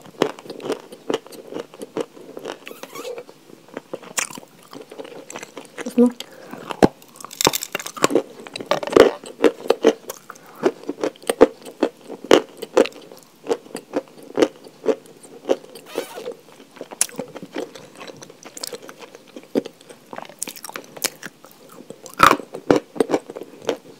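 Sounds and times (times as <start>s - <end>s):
person chewing crunchy chalk: 3.7s - 5.9s, 6.5s - 23.9s.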